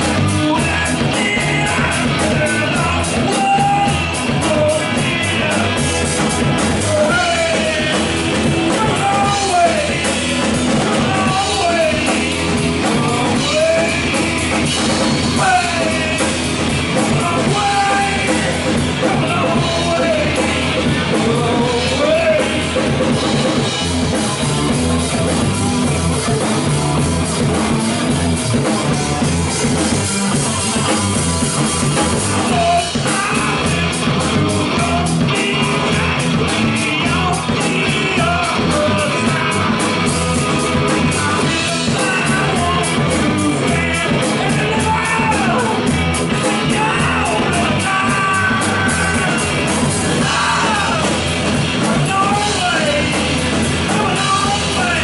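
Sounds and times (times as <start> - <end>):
bending lead guitar melody: 0.0 - 55.0
live rock band playing: 0.0 - 55.0.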